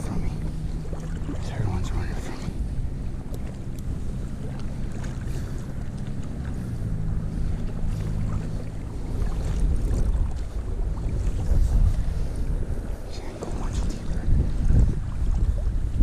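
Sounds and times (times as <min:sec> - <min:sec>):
water sloshing around legs: 0:00.0 - 0:16.0
wind rumbling on microphone: 0:00.0 - 0:16.0.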